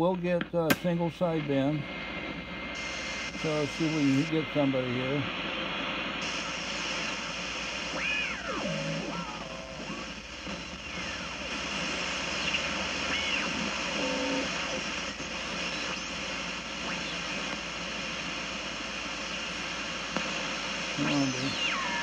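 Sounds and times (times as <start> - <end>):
radio static and hiss: 0.0 - 22.0.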